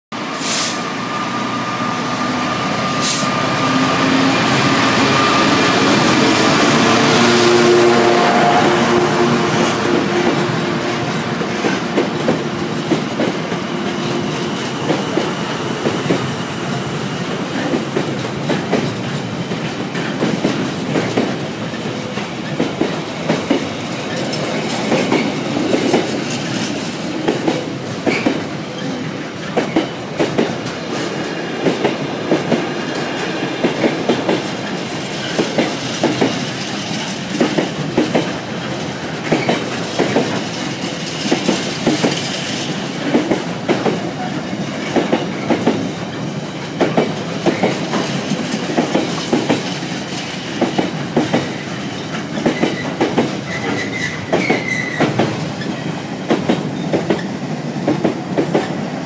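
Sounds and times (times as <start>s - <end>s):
diesel locomotive engine passing: 0.2s - 59.0s
train wheels clacking on rails: 0.2s - 59.0s.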